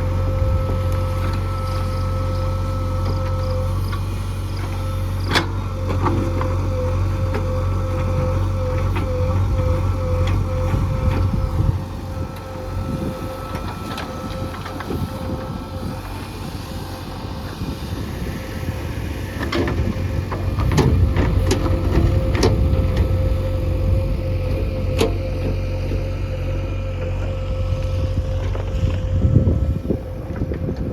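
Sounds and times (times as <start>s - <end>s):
heavy diesel machinery running: 0.0s - 30.9s.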